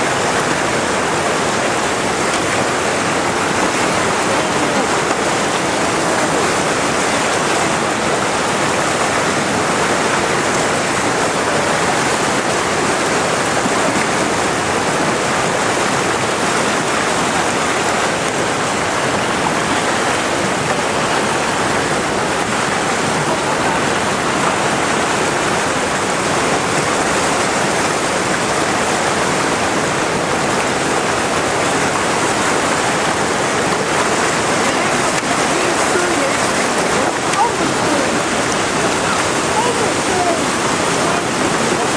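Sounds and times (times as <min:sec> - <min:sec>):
fast-flowing white water: 0:00.0 - 0:41.9.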